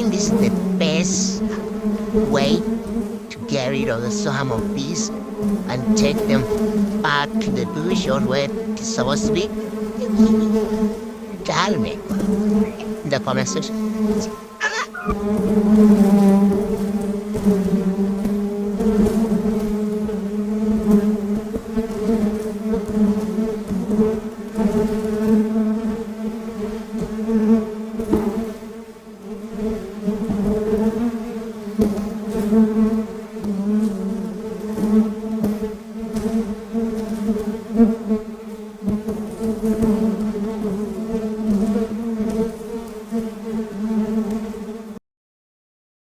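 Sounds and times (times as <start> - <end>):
bee swarm buzzing: 0.0 - 45.0.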